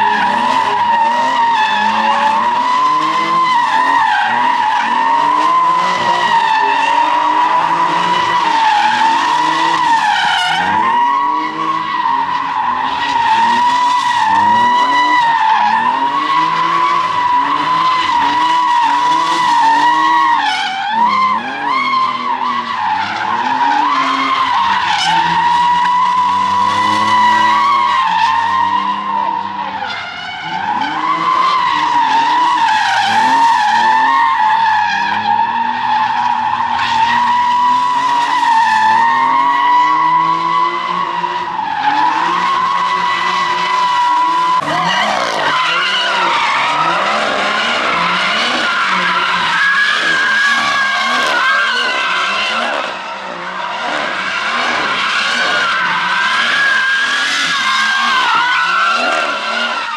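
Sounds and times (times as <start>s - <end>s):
car engine revving: 0.0s - 34.0s, 36.2s - 59.9s
car tyres squealing: 0.0s - 59.9s.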